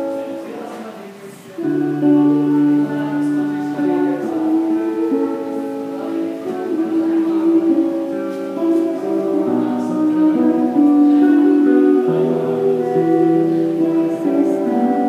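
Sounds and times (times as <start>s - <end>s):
acoustic guitar: 0.0s - 15.0s
woman singing into microphone: 0.0s - 15.0s.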